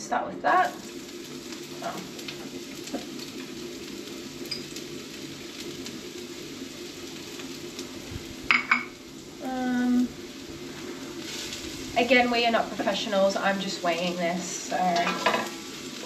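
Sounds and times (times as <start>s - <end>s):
food sizzling in hot oil: 0.4s - 16.0s.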